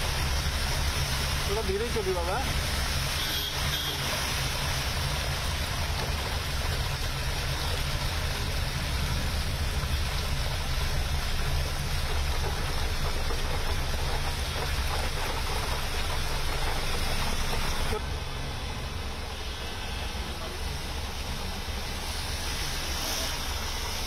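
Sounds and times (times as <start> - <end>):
heavy rain pouring: 0.0 - 24.0
traffic on wet road: 0.0 - 24.0.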